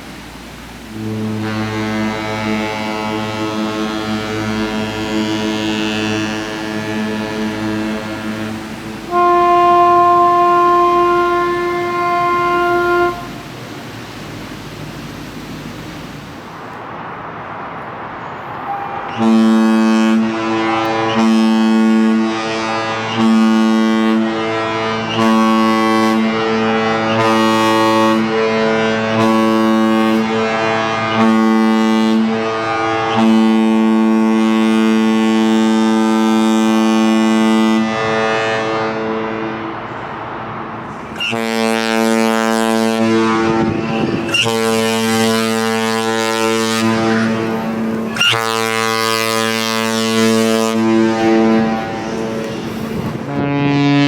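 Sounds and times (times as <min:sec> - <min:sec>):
deep ship horn blasts: 0:00.0 - 0:54.0
high-pitched ship horn: 0:00.7 - 0:17.0, 0:18.2 - 0:54.0.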